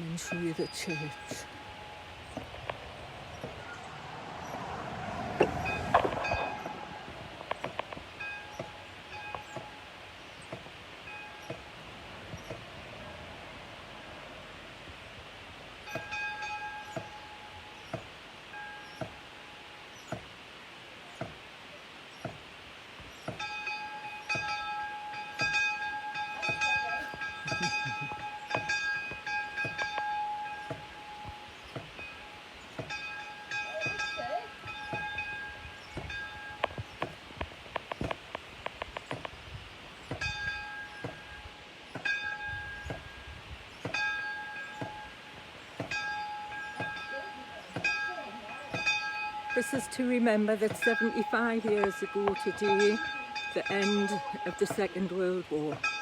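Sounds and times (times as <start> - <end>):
church bell ringing: 0.1 - 4.7, 5.6 - 10.2, 10.9 - 14.6, 15.8 - 19.8, 23.4 - 36.9, 40.2 - 43.3, 43.9 - 56.0.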